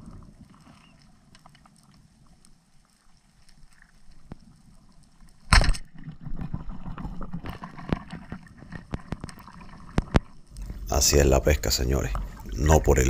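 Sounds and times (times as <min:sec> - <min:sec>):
underwater water noise: 0:00.0 - 0:13.0.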